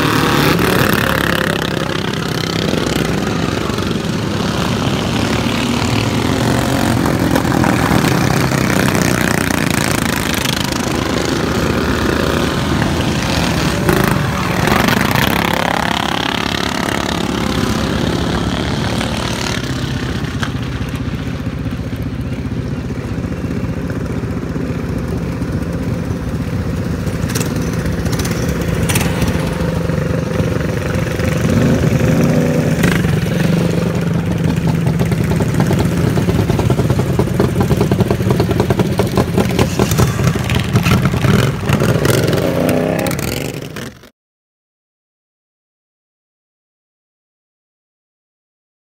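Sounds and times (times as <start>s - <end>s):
racing lawn mower engines: 0.0s - 44.1s.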